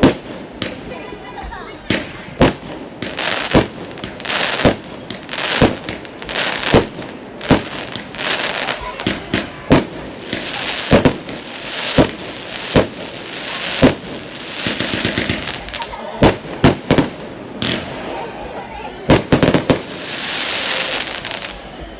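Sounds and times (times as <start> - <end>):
fireworks banging: 0.0 - 21.9
fireworks crackling and hissing: 0.0 - 21.9.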